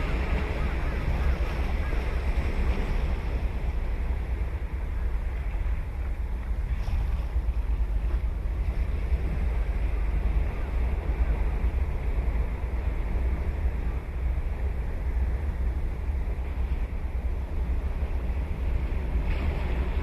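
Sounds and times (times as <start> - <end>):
ocean surf on beach: 0.0 - 20.0
wind on microphone: 0.0 - 20.0.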